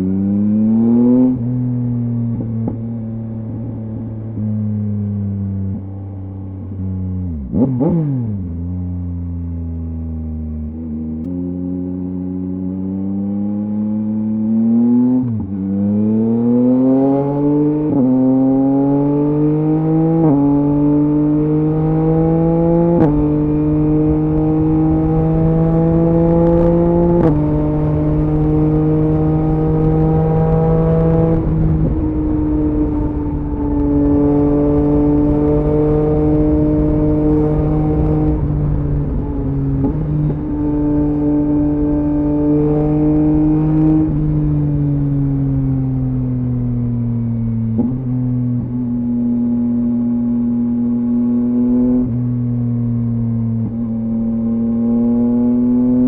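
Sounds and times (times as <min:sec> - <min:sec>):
motorcycle engine accelerating hard: 0:00.0 - 0:56.0.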